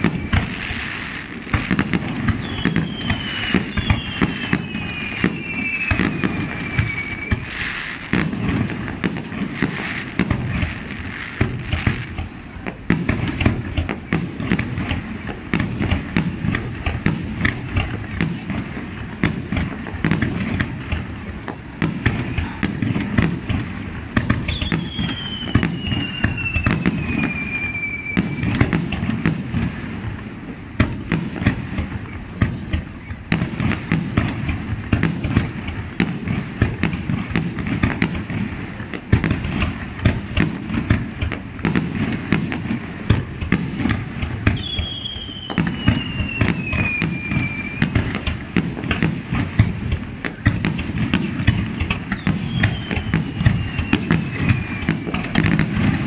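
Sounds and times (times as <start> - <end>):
falling firework whistle: 0.0 - 18.6, 24.2 - 30.2, 30.9 - 56.0
fireworks bursting with cracks and booms: 0.0 - 56.0.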